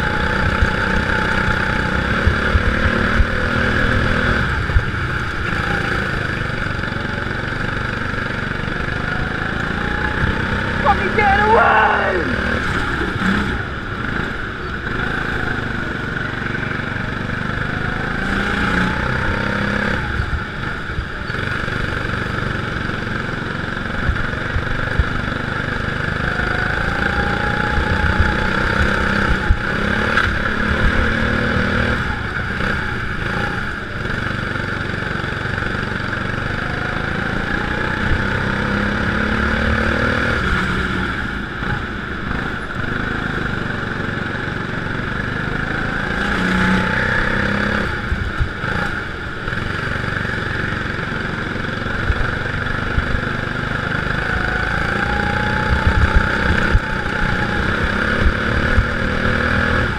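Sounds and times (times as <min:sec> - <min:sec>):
go-kart engine accelerating: 0:00.0 - 0:59.9.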